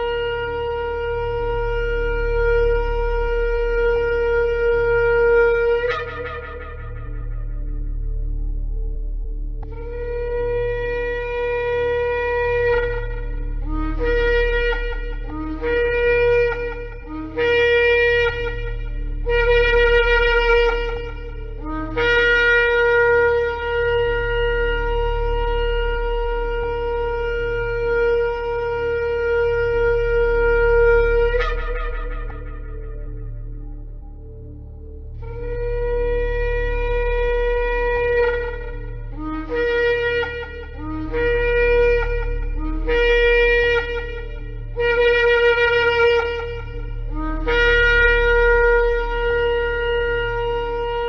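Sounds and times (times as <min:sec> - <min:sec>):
shofar blasts: 0:00.0 - 0:51.0
steady low hum: 0:00.0 - 0:51.0.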